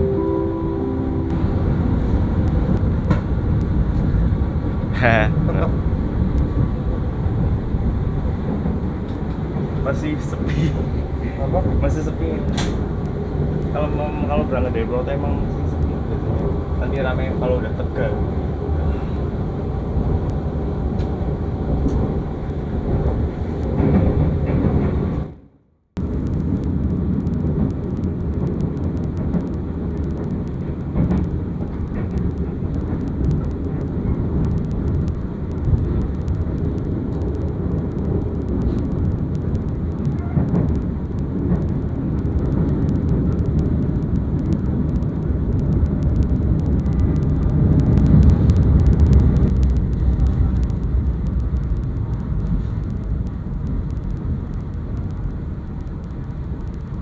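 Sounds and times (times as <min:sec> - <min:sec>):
train coach rumbling on rails: 0:00.0 - 0:25.4, 0:26.0 - 0:57.0.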